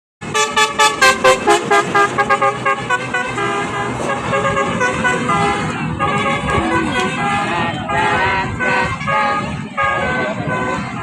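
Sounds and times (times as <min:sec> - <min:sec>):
bus horn playing a tune: 0:00.2 - 0:11.0.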